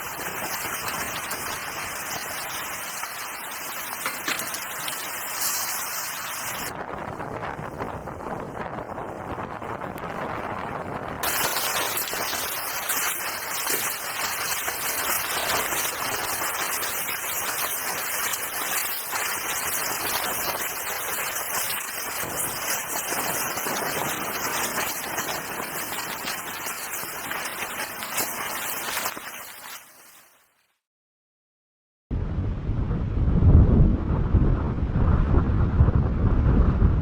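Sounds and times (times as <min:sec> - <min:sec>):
steady hiss and patter: 0:00.0 - 0:10.6, 0:11.2 - 0:30.3.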